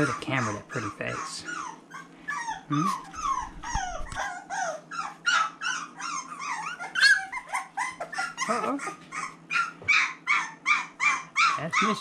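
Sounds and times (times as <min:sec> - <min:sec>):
puppy whining: 0:00.0 - 0:12.0.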